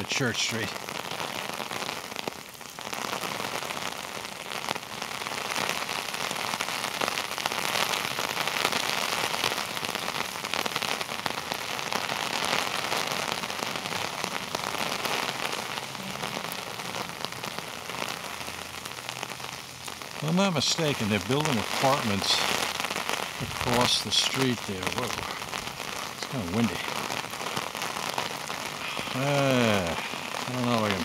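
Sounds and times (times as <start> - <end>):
heavy rain on an umbrella: 0.0 - 31.0.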